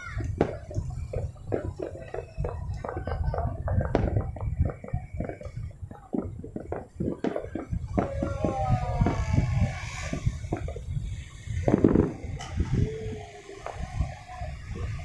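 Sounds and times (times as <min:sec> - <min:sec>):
distant fireworks crackling: 0:00.0 - 0:15.0
loud sharp firework bangs: 0:00.0 - 0:15.0.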